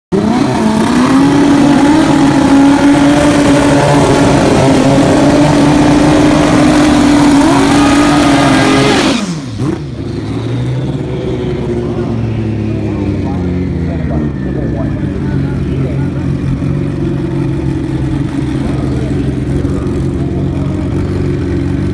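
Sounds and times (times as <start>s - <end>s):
drag motorcycles revving: 0.1s - 21.9s
motorcycles launching away: 0.2s - 21.9s.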